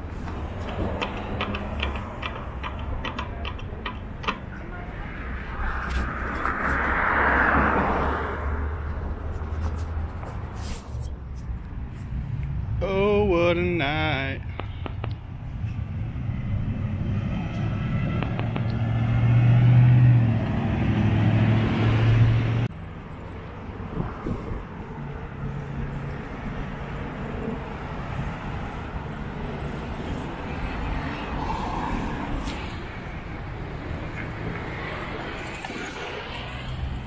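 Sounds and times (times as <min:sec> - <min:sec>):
steady traffic noise: 0:00.0 - 0:37.0.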